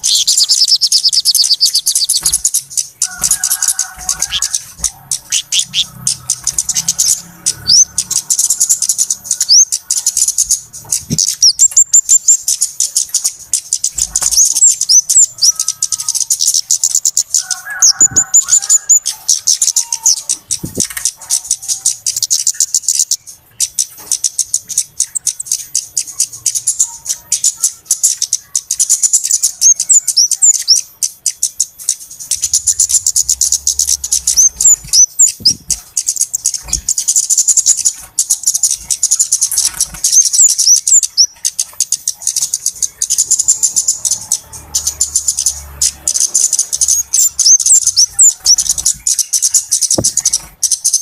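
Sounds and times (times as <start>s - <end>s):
small birds ticking and chirping: 0.0s - 51.0s.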